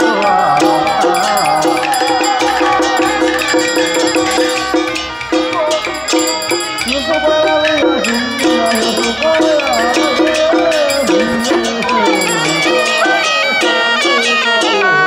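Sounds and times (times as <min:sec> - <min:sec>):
percussion strokes: 0:00.0 - 0:15.0
shrill reed horn melody: 0:00.0 - 0:15.0.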